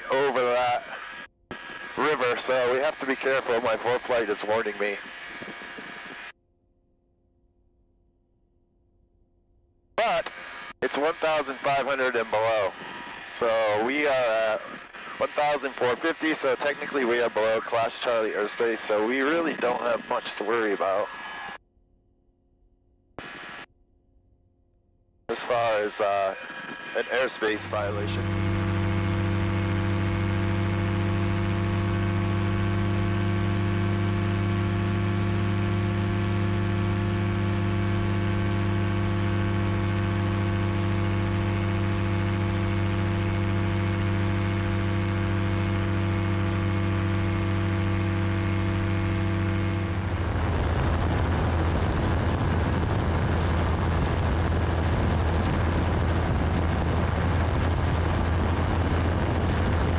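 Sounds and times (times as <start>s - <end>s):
ultralight aircraft engine droning: 0.0s - 6.4s, 10.0s - 21.6s, 25.3s - 59.9s.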